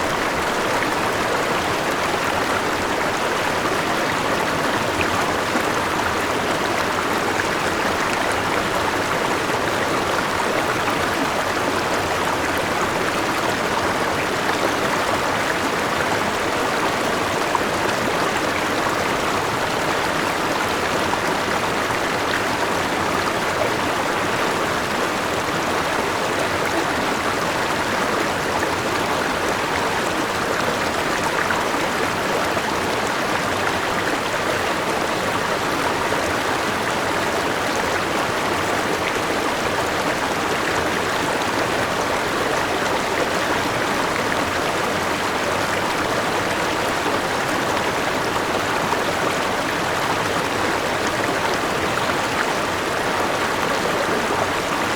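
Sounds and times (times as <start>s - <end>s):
river water flowing over rocks: 0.0s - 54.9s.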